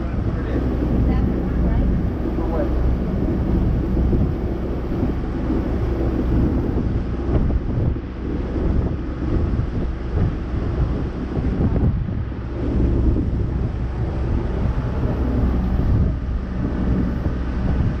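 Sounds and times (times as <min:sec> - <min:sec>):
boat engine droning: 0:00.0 - 0:18.0
water splashing along hull: 0:00.0 - 0:18.0
wind buffeting microphone: 0:00.0 - 0:18.0.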